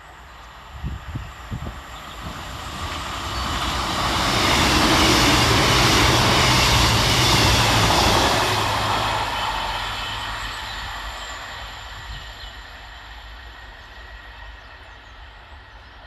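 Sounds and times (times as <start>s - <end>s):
train passing through station: 0.0s - 16.0s.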